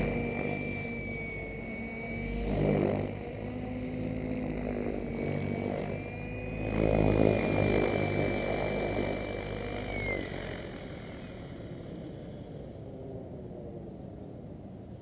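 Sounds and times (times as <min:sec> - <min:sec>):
electric motor whine: 0:00.0 - 0:13.4
model helicopter rotor hum: 0:00.0 - 0:15.0.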